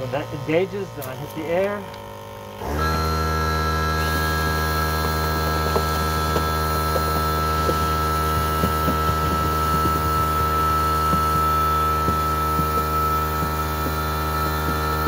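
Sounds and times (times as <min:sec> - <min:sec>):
pump motor humming: 0:00.0 - 0:15.0
air hissing: 0:02.2 - 0:15.0.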